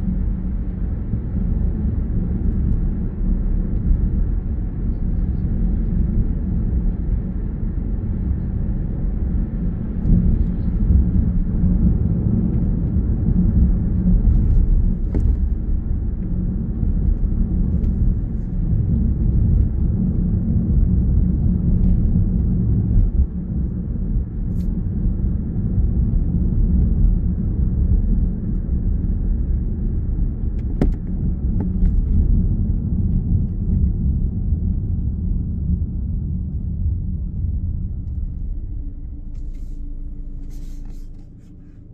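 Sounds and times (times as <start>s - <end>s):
car engine rumble: 0.0s - 41.9s.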